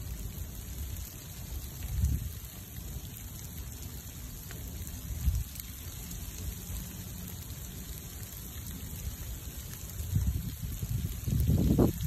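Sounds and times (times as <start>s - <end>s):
fire crackling: 0.0s - 12.0s
rain hissing: 0.0s - 12.0s.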